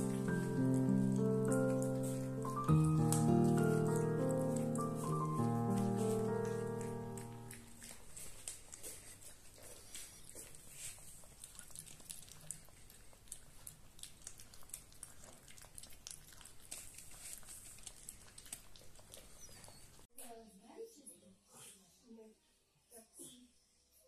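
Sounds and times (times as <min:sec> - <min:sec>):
puppy chewing food: 0:00.0 - 0:20.1.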